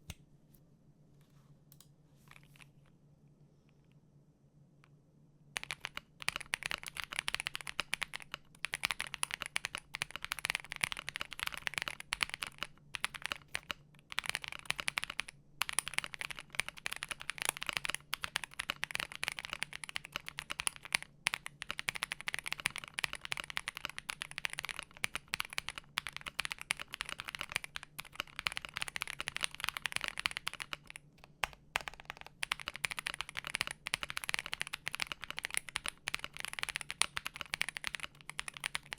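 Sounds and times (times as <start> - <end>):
mechanical keyboard typing: 5.6 - 38.9.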